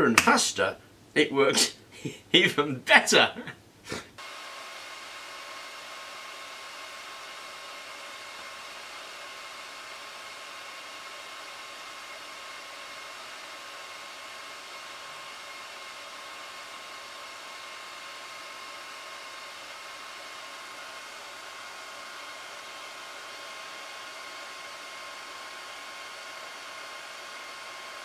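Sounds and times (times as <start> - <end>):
hair dryer blowing: 4.2 - 28.0.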